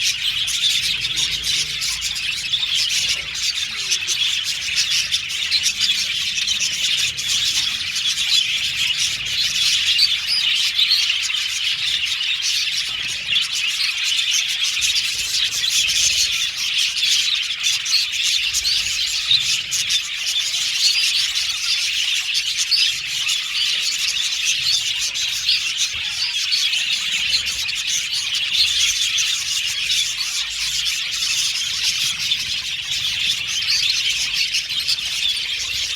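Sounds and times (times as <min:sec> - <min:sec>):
budgerigars chirping: 0:00.0 - 0:35.9.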